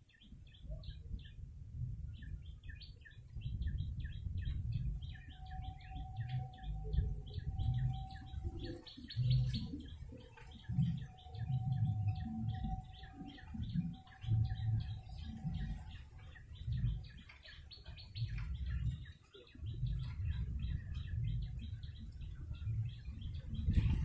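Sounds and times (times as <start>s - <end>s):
low uneven rumble: 0.8s - 24.0s
thin steady tone: 4.5s - 23.7s.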